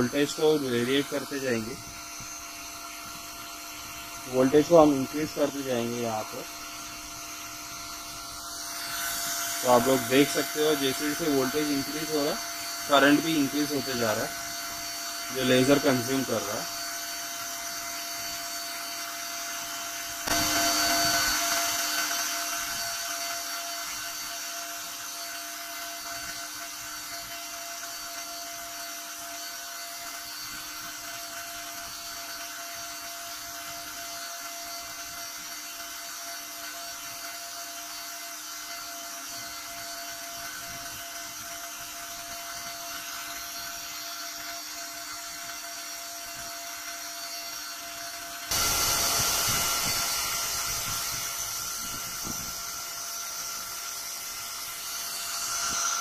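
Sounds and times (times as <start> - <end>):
small electric motor whirring: 0.0 - 56.0.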